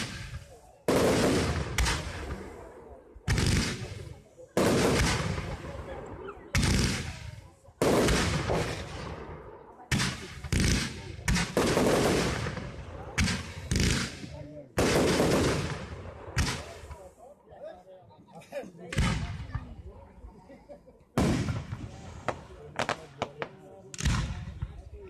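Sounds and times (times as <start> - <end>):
fireworks bursting with loud bangs: 0.0 - 17.2, 18.9 - 19.7, 21.2 - 24.9.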